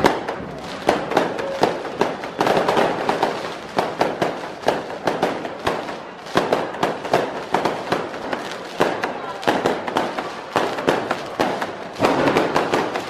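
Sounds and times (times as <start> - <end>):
firework cracks and bangs: 0.0 - 13.0
sparklers hissing and crackling: 0.0 - 13.0.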